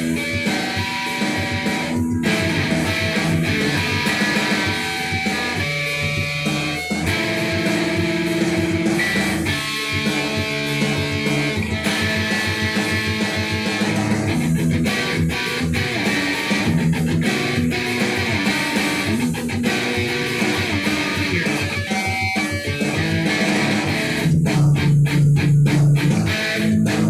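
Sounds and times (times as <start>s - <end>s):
electric guitar lead: 0.0s - 27.0s.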